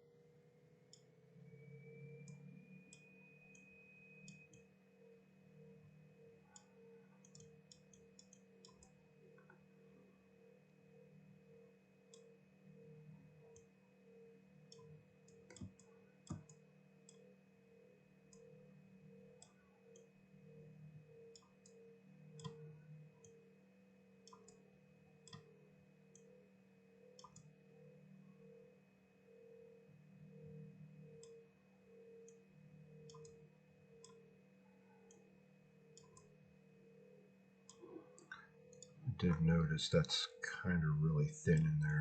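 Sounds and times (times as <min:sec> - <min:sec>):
low electrical hum: 0:00.1 - 0:42.0.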